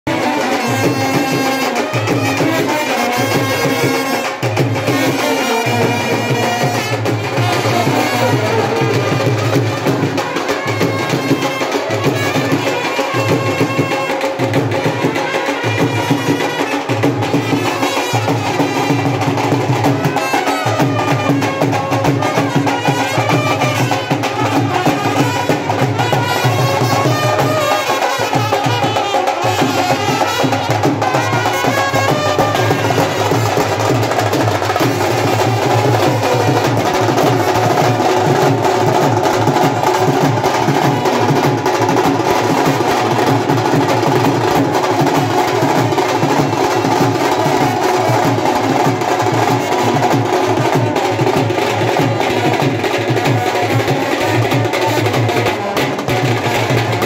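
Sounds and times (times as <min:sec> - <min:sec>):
band playing traditional music: 0:00.1 - 0:57.0
steady drumming: 0:00.1 - 0:57.0.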